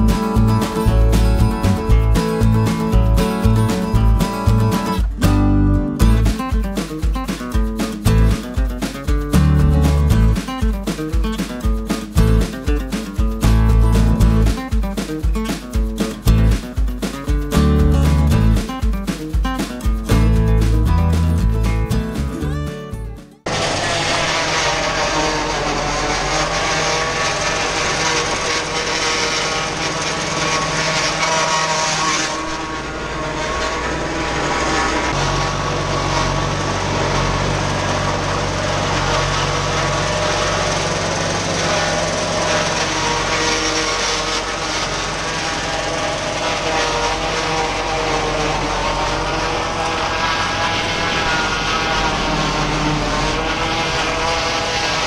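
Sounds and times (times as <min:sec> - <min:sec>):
corn chopper mechanical drone: 0:00.0 - 0:22.7, 0:23.4 - 0:55.0
tractor engine under load: 0:00.0 - 0:22.7, 0:23.4 - 0:55.0.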